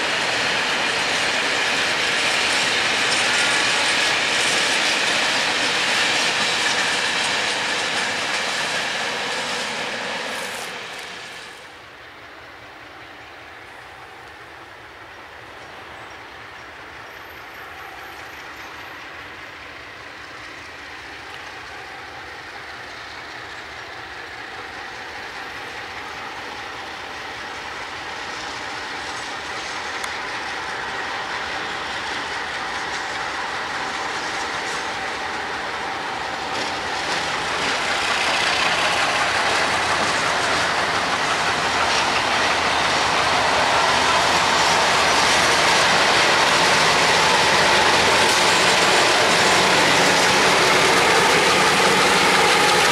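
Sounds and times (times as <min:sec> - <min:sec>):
freight train approaching: 0:00.0 - 0:52.9.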